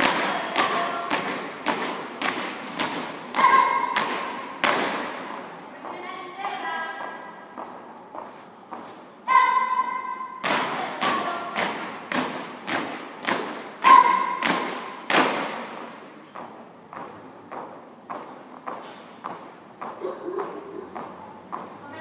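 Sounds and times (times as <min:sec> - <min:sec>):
marching feet stamping on concrete: 0:00.0 - 0:09.1, 0:10.4 - 0:21.8.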